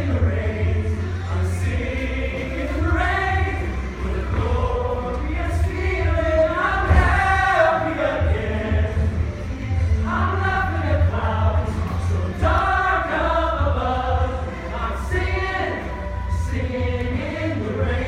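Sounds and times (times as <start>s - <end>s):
group of voices singing: 0.0s - 18.0s
steady low rumble: 0.0s - 18.0s.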